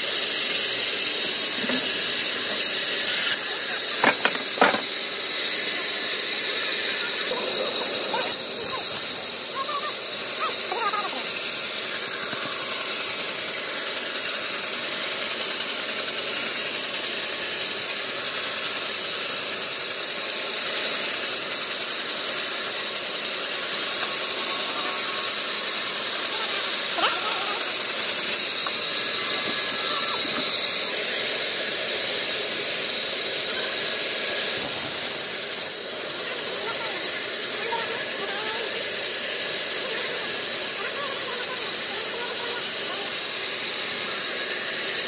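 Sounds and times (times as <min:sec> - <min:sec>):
band saw cutting log: 0:00.0 - 0:45.0.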